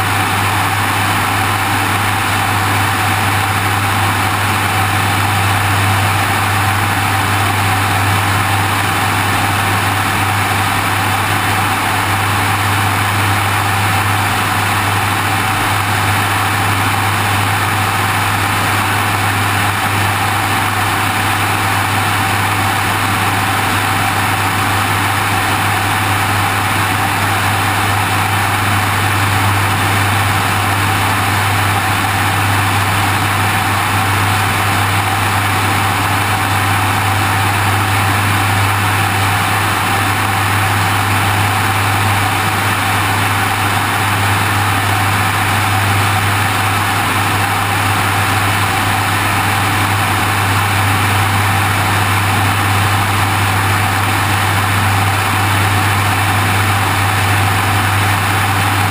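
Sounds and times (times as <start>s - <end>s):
light aircraft engine drone: 0.0s - 58.9s.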